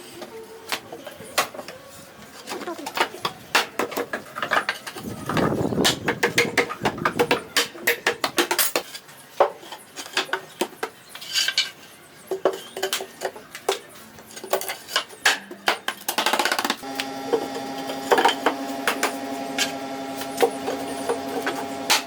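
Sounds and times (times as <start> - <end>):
hard objects tapping and clattering: 0.8 - 22.0.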